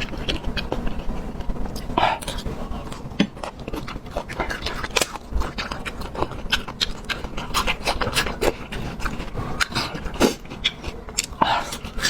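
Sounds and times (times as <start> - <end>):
person chewing and smacking: 0.0 - 12.0.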